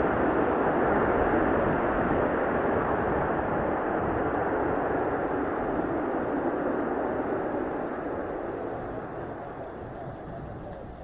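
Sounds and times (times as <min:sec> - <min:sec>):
jet engines roaring: 0:00.0 - 0:11.0
wind buffeting microphone: 0:00.0 - 0:11.0.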